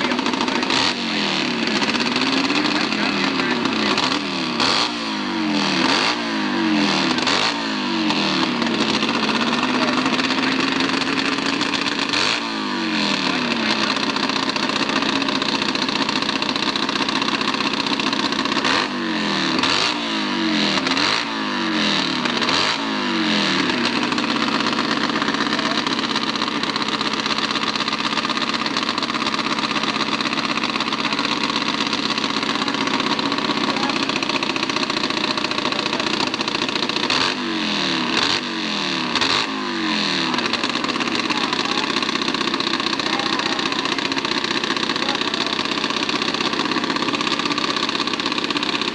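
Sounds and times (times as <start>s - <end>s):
racing motorcycle engine revving: 0.0s - 48.9s.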